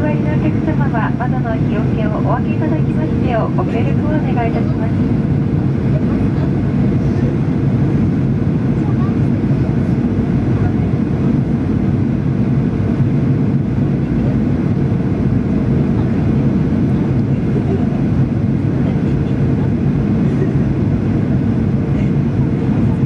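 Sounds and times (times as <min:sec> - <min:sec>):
constant cabin hum: 0:00.0 - 0:23.0
jet cabin engine roar: 0:00.0 - 0:23.0.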